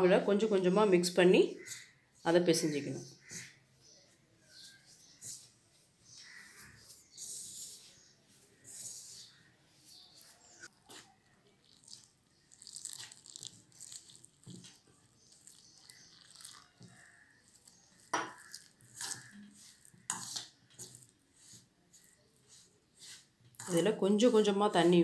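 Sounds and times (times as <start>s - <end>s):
hand mixing dough in bowl: 4.1s - 25.0s.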